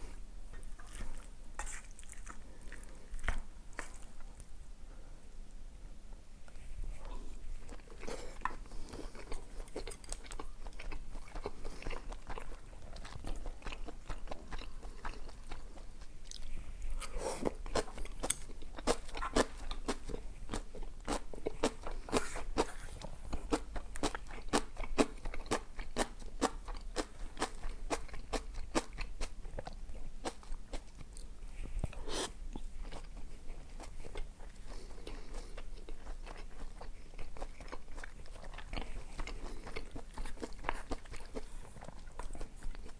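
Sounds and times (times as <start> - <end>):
crisp chewing crunches: 0.5 - 4.5, 7.6 - 42.9.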